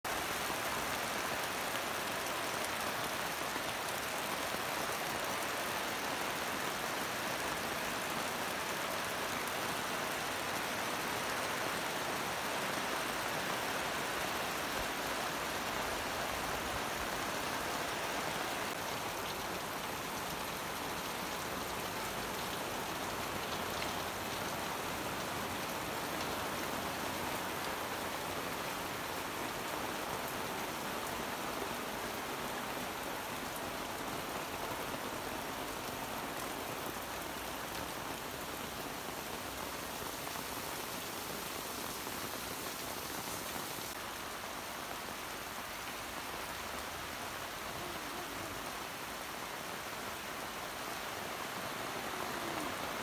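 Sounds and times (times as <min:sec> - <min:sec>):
heavy rain on pavement and cars: 0:00.0 - 0:53.0.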